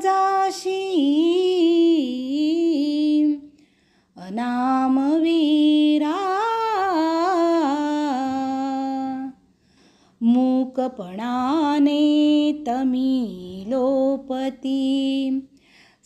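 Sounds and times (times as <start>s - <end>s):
woman singing wordless melody: 0.0s - 3.6s, 4.2s - 9.4s, 10.2s - 15.6s.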